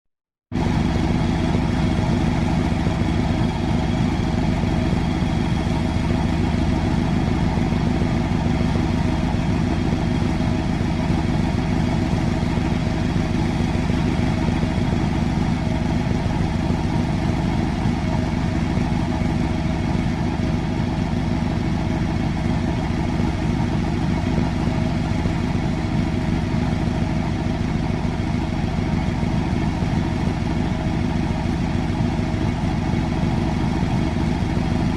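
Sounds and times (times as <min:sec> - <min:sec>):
large engine idling: 0:00.5 - 0:34.9.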